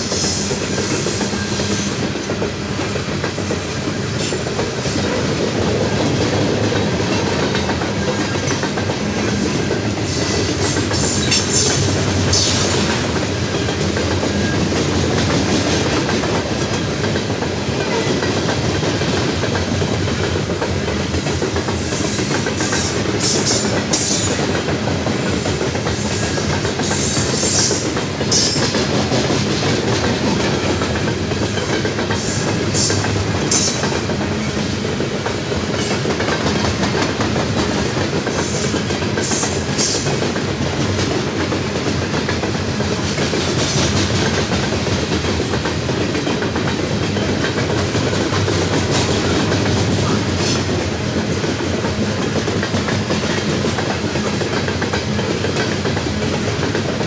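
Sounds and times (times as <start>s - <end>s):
train wheels rumbling and clicking: 0.0s - 57.0s.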